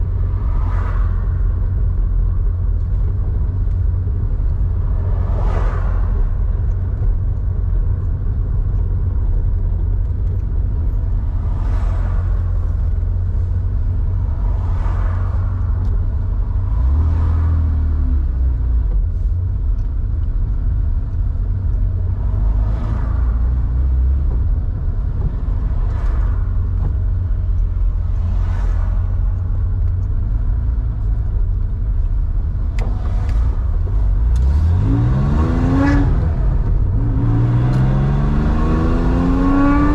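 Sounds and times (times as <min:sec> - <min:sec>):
car engine deep rumble: 0:00.0 - 0:39.9.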